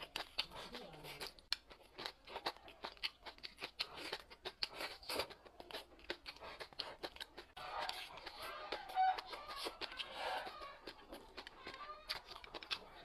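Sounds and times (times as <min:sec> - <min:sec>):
crunching and chewing: 0:00.0 - 0:13.0.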